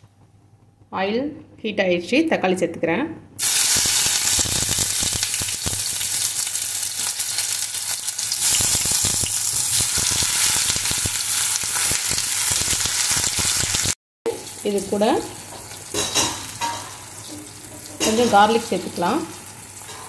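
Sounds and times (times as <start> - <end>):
tomatoes sizzling in hot oil: 3.4 - 20.0.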